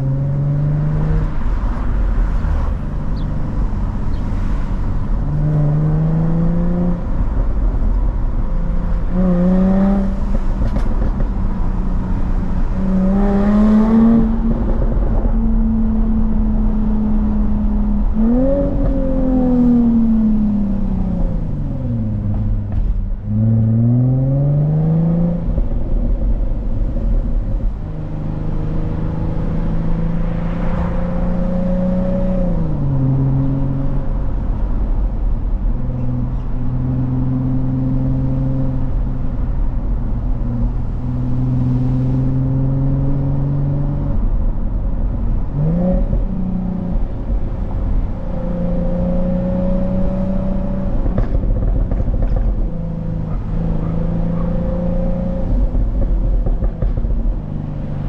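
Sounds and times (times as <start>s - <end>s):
car engine accelerating: 0.0s - 58.0s
low road rumble: 0.0s - 58.0s.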